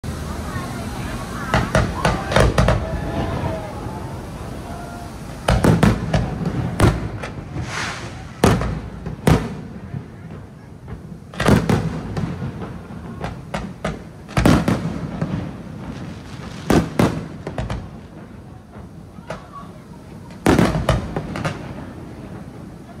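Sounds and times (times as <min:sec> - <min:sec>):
fireworks bangs: 0:00.5 - 0:23.0.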